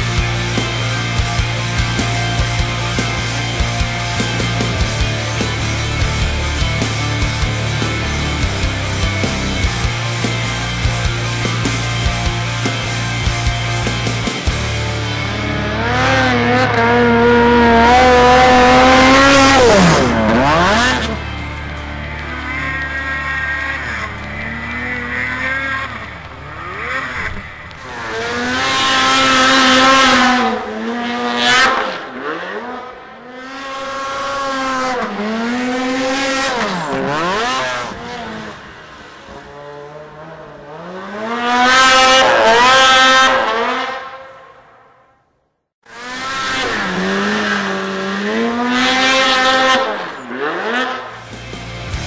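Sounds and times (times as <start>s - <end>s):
snowmobile engine revving: 0.0s - 44.7s, 45.9s - 52.0s.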